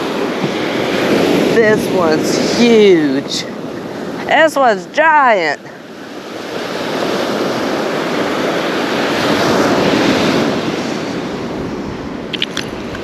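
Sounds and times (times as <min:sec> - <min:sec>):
wave breaking on beach: 0:00.0 - 0:13.0.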